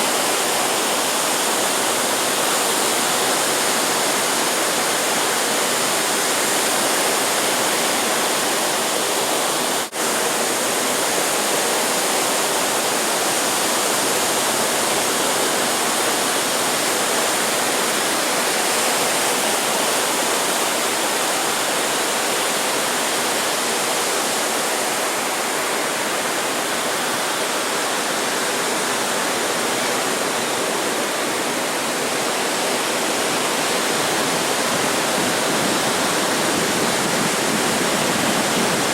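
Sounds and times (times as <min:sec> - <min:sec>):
ocean surf roaring: 0:00.0 - 0:38.9.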